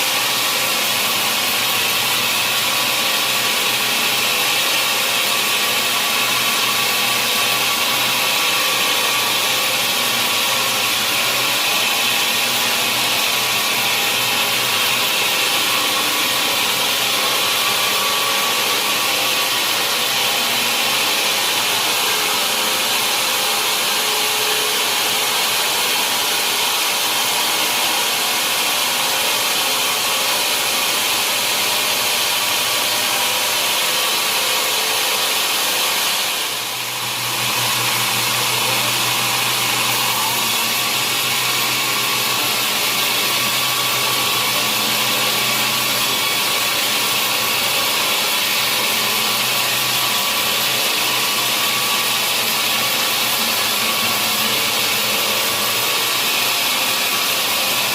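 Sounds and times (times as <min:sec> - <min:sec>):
saw cutting through log: 0:00.0 - 0:57.9.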